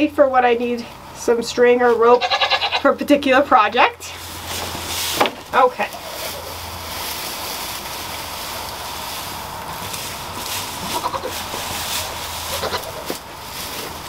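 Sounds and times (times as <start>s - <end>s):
dry hay rustling: 1.6s - 14.0s.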